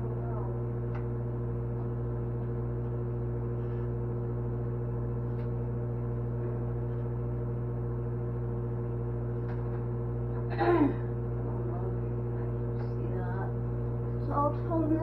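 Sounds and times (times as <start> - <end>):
microwave oven hum: 0.0 - 15.0.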